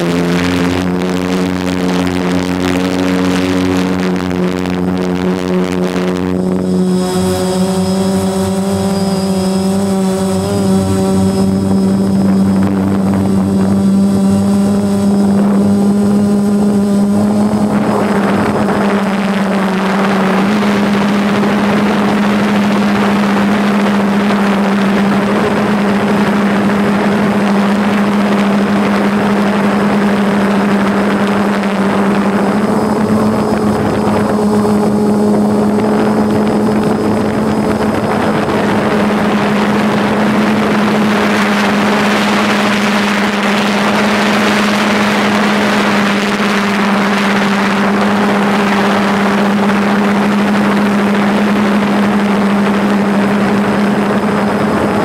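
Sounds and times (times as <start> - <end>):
drone propellers humming: 0.0 - 55.0
wind noise on microphone: 0.0 - 55.0.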